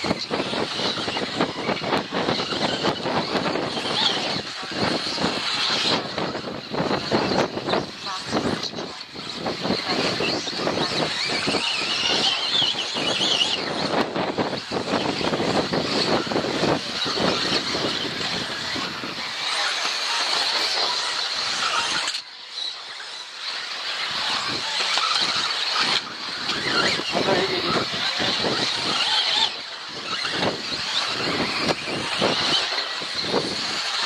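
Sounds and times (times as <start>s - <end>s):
electric motors whining: 0.0s - 34.0s
toy cars clattering on track: 0.0s - 34.0s.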